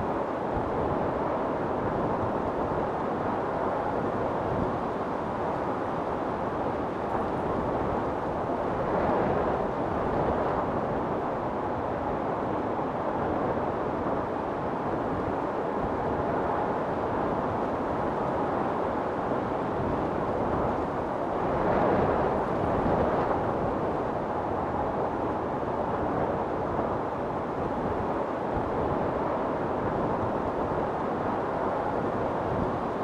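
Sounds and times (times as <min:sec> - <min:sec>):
strong storm wind blowing: 0:00.0 - 0:33.0.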